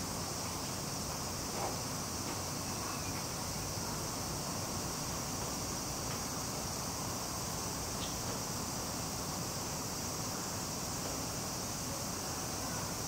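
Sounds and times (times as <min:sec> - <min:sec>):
insect chorus buzzing: 0:00.0 - 0:13.0.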